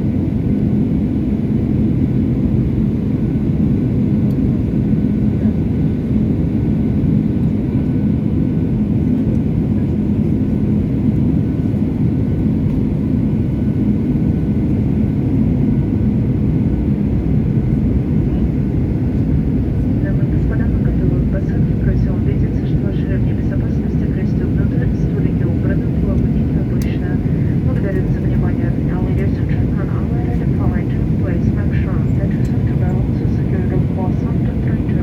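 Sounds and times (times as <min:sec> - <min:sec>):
aircraft cabin engine roar: 0:00.0 - 0:35.0.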